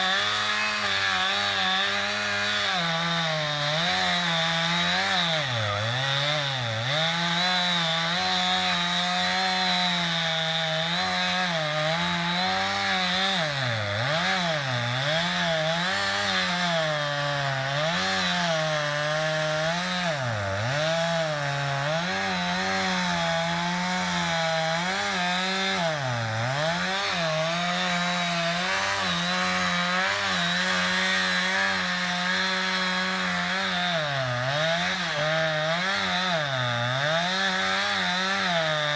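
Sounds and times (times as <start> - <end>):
chainsaw cutting tree: 0.0 - 38.9.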